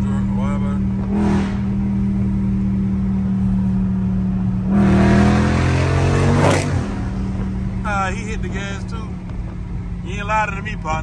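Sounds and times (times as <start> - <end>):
car engine and exhaust from cabin: 0.0 - 11.0.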